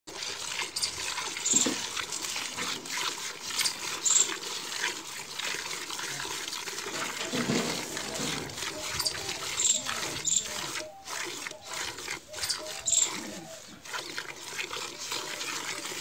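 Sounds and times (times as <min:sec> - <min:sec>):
milk squirting into a pail: 0:00.1 - 0:16.0.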